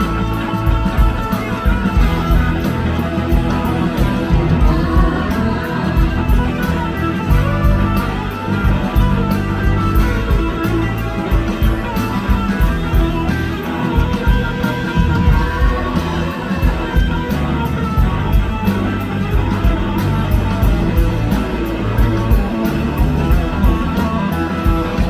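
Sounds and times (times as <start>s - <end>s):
blues-rock band playing: 0.0s - 25.0s
electric guitar: 0.0s - 25.0s.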